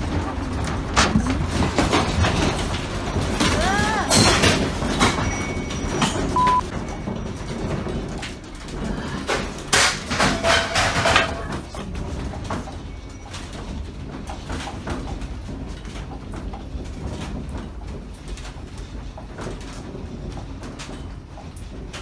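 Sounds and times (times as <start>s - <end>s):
household objects rattling: 0.0s - 22.0s
loud knocks and clatter: 0.0s - 22.0s.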